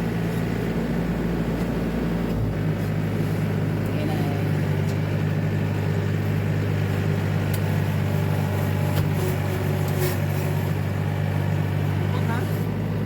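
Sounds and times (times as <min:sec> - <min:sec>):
truck engine low hum: 0:00.0 - 0:13.0.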